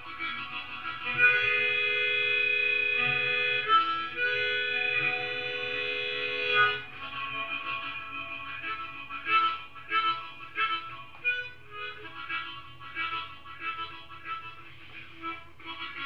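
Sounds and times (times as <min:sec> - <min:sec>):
harmonica chords: 0:00.0 - 0:16.0.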